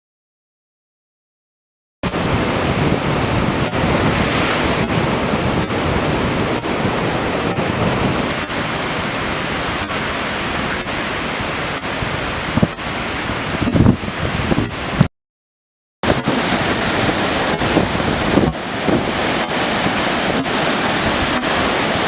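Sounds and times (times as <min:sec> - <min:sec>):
surf washing on a beach: 0:02.0 - 0:15.1, 0:16.0 - 0:22.0
wind noise on microphone: 0:02.0 - 0:15.1, 0:16.0 - 0:22.0.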